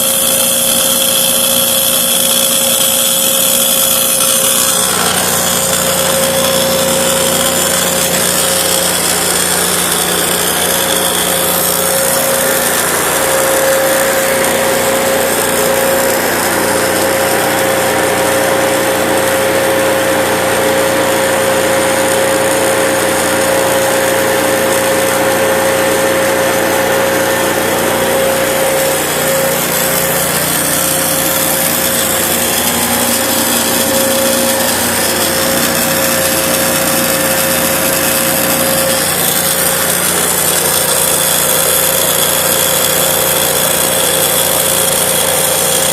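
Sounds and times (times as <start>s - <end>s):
boring machine cutting metal: 0.0s - 45.9s
constant machine whine: 0.0s - 45.9s.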